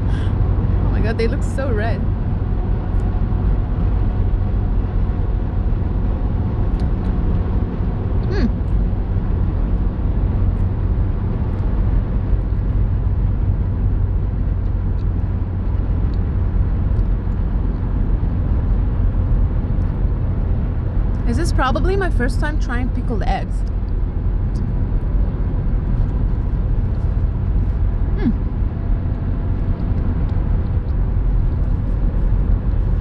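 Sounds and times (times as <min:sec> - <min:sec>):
car cabin rumble: 0:00.0 - 0:33.0.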